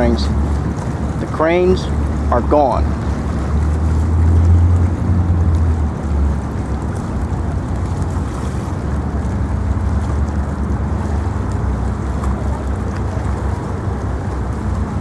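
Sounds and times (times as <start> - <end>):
open-air noise: 0.0 - 15.0.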